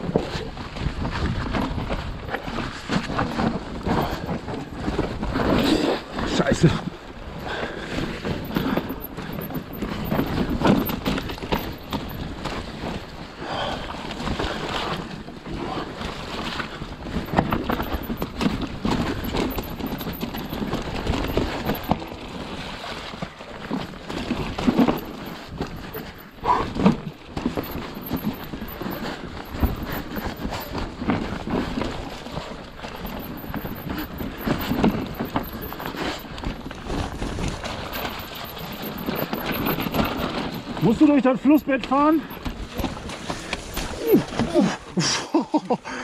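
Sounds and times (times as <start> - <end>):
bike clattering over rocky ground: 0.0 - 13.3, 13.9 - 45.1.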